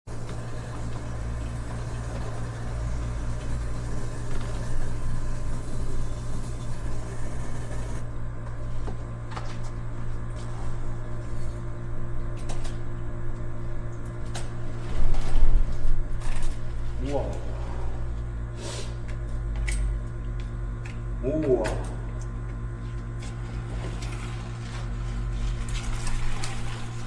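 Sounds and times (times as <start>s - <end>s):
mechanical hum: 0.1s - 27.0s.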